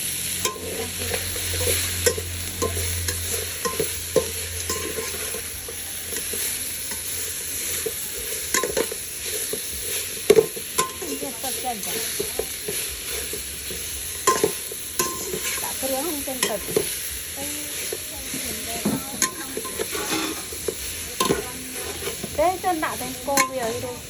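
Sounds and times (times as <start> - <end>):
food sizzling in pan: 0.0 - 24.0.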